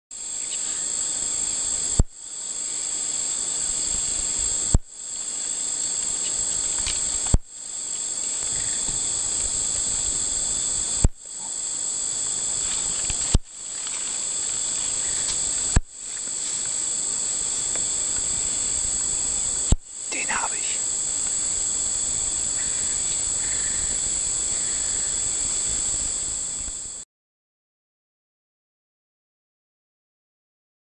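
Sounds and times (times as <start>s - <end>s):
high-pitched insect chorus: 0.2s - 27.0s.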